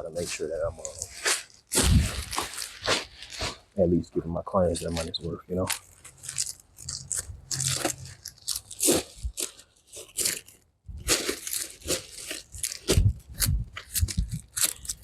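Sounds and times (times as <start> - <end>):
dry plant debris crunching: 0.0 - 3.8, 4.8 - 15.0.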